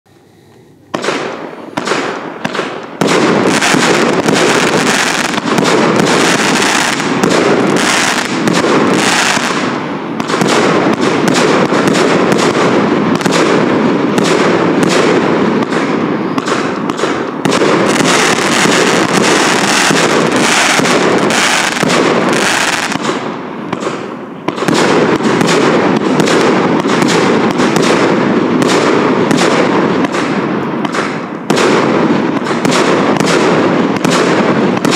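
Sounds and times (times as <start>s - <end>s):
fireworks barrage: 0.1s - 34.9s.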